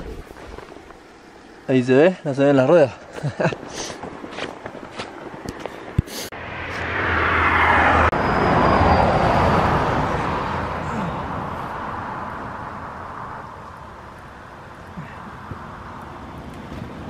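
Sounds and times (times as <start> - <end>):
road traffic passing: 0.6 - 17.0.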